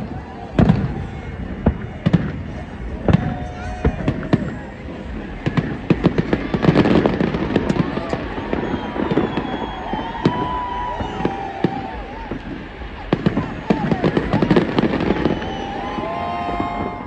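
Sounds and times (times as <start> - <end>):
fireworks bangs: 0.0 - 17.0
fireworks crackle: 0.0 - 17.0.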